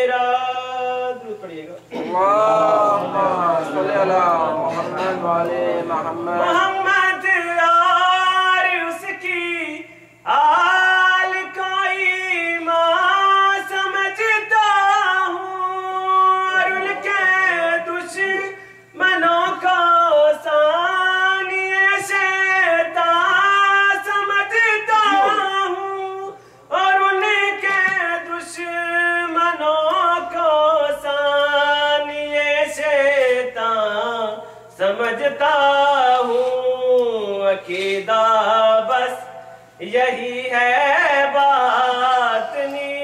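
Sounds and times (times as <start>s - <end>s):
man singing unaccompanied: 0.0s - 43.0s.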